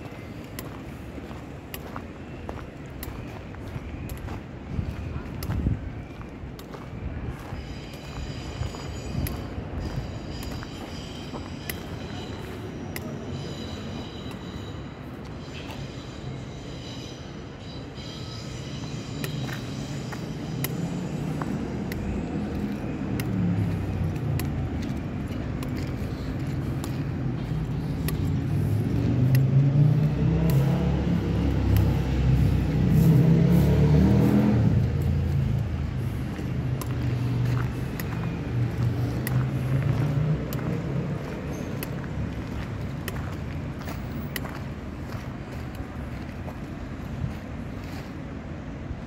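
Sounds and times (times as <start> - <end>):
vehicle engine rumble: 0.0 - 49.0.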